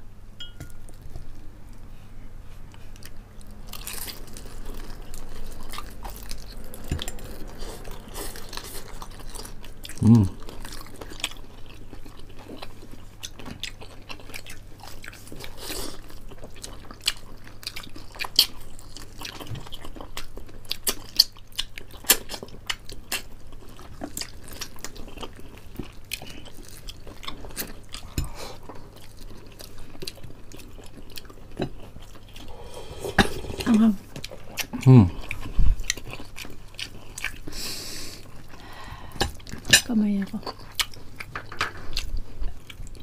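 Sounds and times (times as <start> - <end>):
people chewing crispy chicken: 1.1 - 43.0.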